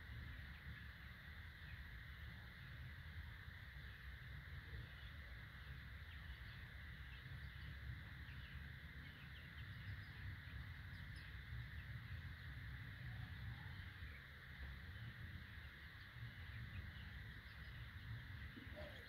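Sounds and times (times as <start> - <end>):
outdoor background hum and hiss: 0.0 - 19.0.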